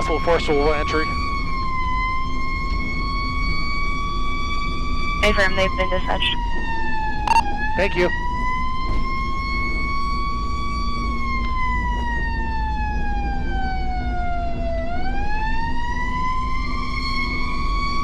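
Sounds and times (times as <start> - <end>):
fire engine siren wailing: 0.0 - 18.0.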